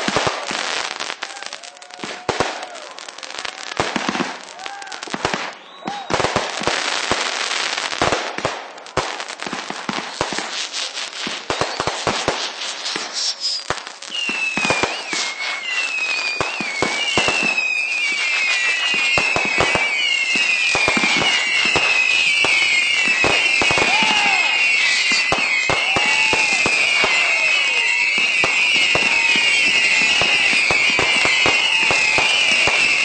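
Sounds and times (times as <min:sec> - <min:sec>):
fireworks bangs and crackling: 0:00.0 - 0:33.0
whistling fireworks: 0:00.0 - 0:33.0.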